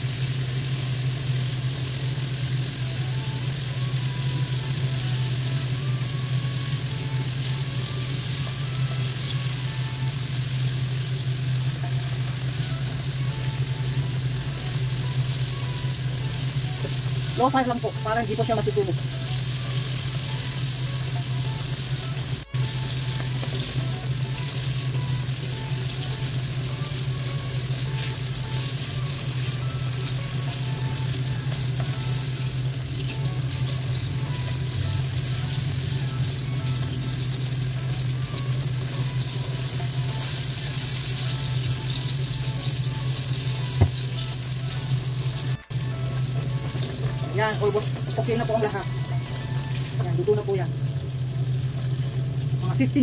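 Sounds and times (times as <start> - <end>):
oil sizzling in a wok: 0.0 - 53.0.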